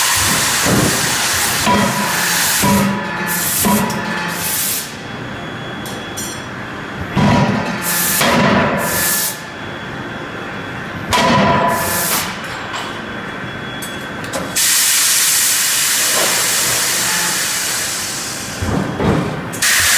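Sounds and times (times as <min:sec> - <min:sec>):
steady machine background: 0:00.0 - 0:19.9.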